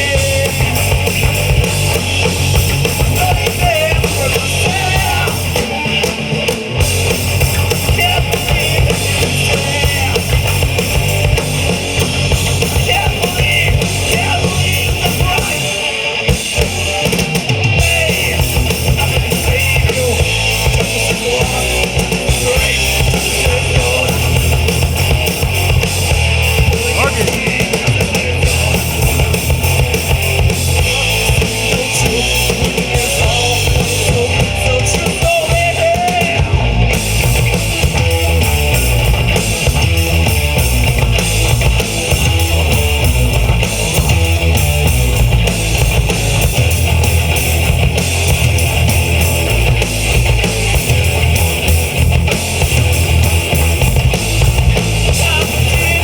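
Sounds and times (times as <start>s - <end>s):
bass guitar: 0.0s - 56.0s
distorted electric guitars: 0.0s - 56.0s
drum kit: 0.0s - 56.0s
lead guitar bending: 0.0s - 56.0s.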